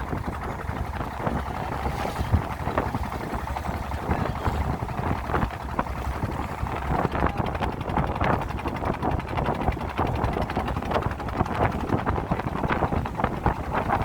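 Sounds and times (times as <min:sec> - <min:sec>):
boat motor running: 0:00.0 - 0:14.0
wind buffeting microphone: 0:00.0 - 0:14.0.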